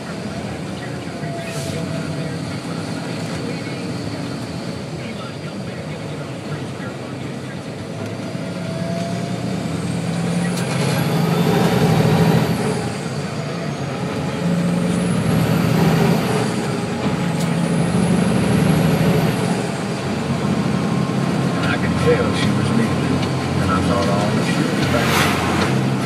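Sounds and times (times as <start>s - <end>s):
truck engine accelerating: 0.0s - 26.0s.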